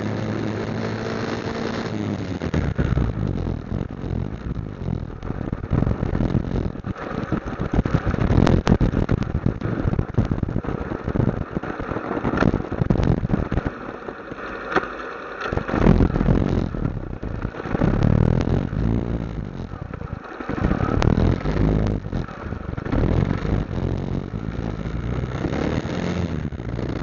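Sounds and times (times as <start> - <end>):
motorcycle engine rumbling: 0.0 - 14.8, 15.4 - 27.0.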